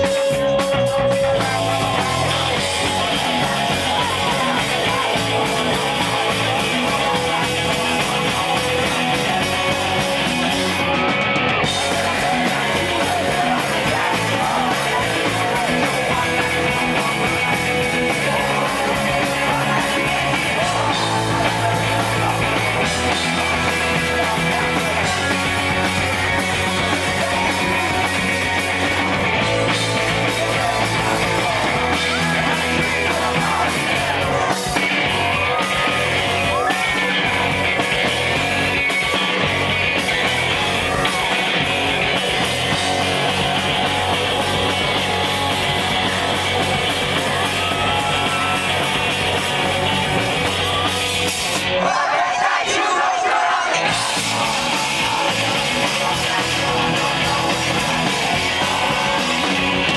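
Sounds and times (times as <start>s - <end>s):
distorted electric guitars: 0.0s - 59.9s
drums: 0.0s - 59.9s
man singing: 0.0s - 59.9s.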